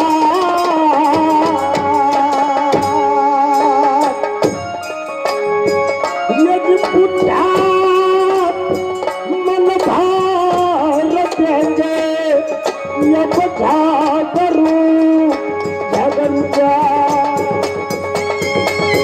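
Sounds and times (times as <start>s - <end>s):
folk melody in long notes: 0.0s - 19.0s
steady drum beats: 0.0s - 19.0s.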